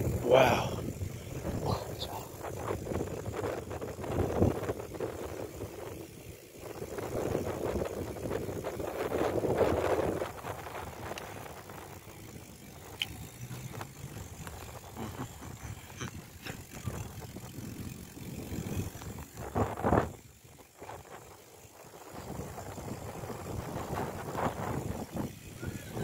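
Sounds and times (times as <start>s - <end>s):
bicycle tyre rumble on concrete: 0.0s - 26.0s
bike rattles and clicks: 0.0s - 26.0s.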